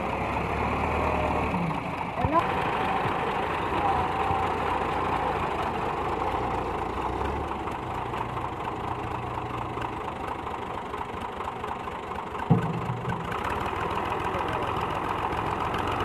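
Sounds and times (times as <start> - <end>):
second tractor engine running: 0.0 - 16.0
tractor diesel engine running: 0.0 - 16.0.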